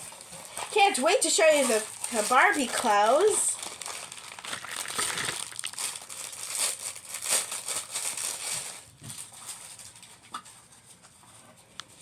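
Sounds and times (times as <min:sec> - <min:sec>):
packaging crinkling: 0:00.0 - 0:10.3.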